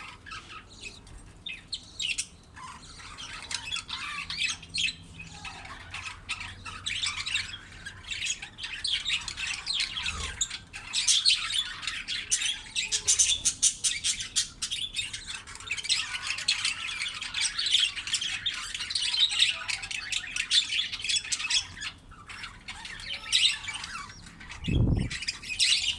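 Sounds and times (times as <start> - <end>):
budgerigar chicks squawking: 0.0 - 25.9.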